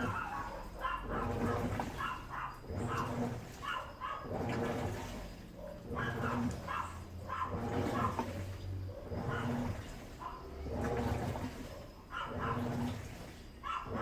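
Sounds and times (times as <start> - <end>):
low motor rumble: 0.0 - 13.2
washing machine swishing water: 0.0 - 14.0.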